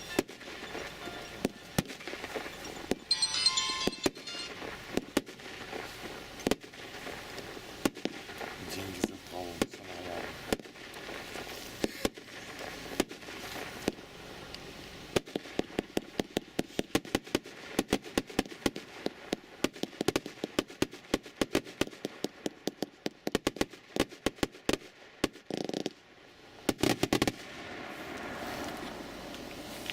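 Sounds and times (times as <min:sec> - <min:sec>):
firework bangs: 0:00.0 - 0:26.0, 0:26.6 - 0:29.9
firework hiss: 0:04.6 - 0:29.9.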